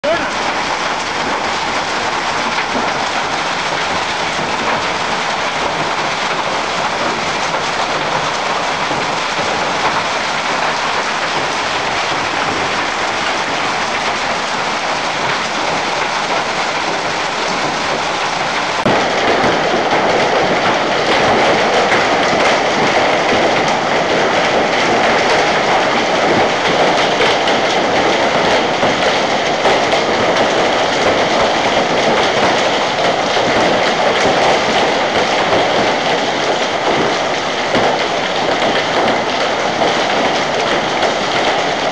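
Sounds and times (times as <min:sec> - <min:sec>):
hail and heavy rain pelting: 0:00.0 - 0:41.9.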